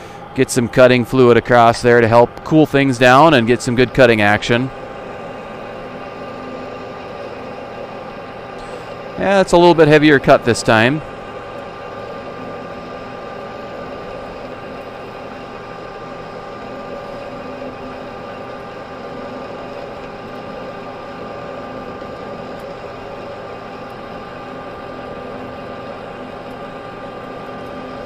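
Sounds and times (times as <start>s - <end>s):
lathe tool cutting steel: 0.0s - 28.0s
metal lathe humming: 0.0s - 28.0s.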